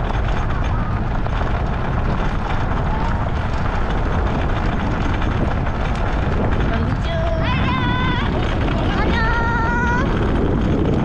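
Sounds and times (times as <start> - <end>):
rattles and knocks: 0.0 - 11.0
wheels rumbling on dirt track: 0.0 - 11.0.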